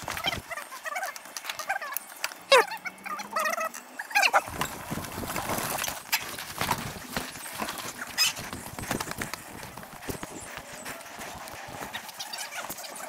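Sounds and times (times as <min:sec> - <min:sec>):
mountain bike rattling: 0:00.0 - 0:13.0.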